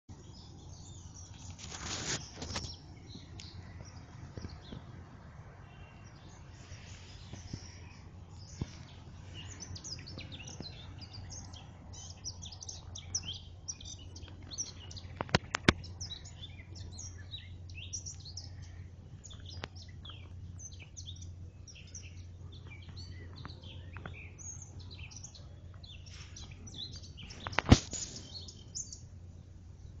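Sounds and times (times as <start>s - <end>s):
birds chirping and singing: 0.1s - 30.0s
low steady hum: 0.1s - 30.0s.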